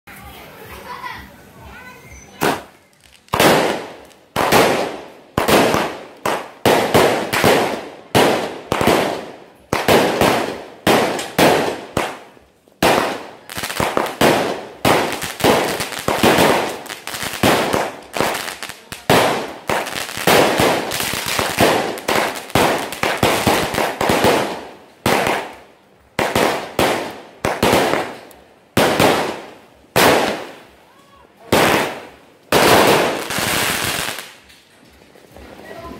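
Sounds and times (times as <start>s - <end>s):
firework shots banging: 2.4s - 25.6s, 26.2s - 30.6s, 31.4s - 34.6s.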